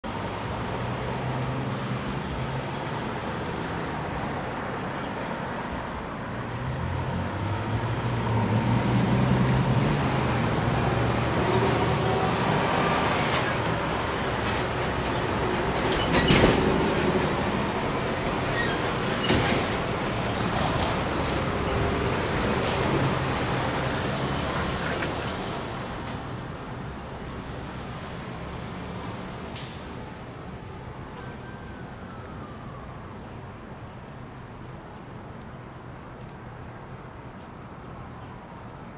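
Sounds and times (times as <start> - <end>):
vehicles passing: 0.0 - 38.9.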